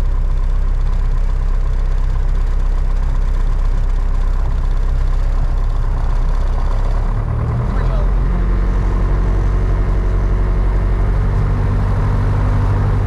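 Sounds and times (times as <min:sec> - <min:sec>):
light aircraft engine and propeller: 0:00.0 - 0:13.0.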